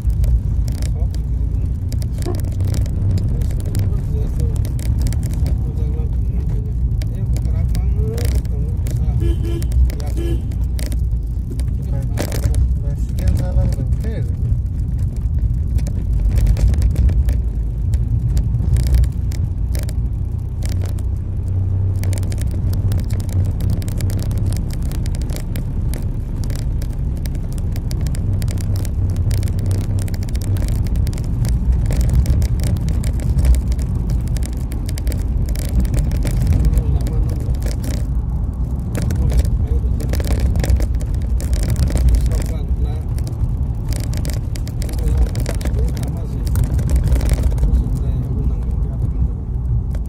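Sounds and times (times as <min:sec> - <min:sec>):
engine and road rumble: 0:00.0 - 0:50.0
light clicks and rattles: 0:00.0 - 0:50.0.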